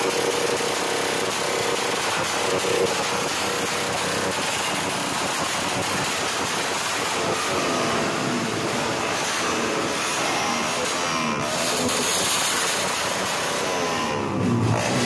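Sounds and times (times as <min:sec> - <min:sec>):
motorcycle engine running loud: 0:00.0 - 0:15.0.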